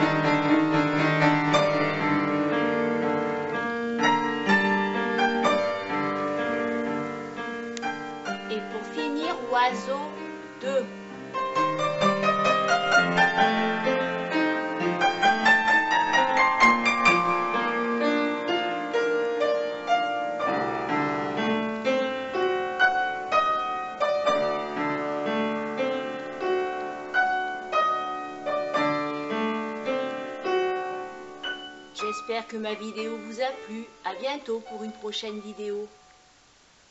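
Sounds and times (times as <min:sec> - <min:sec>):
piano music: 0:00.0 - 0:36.4.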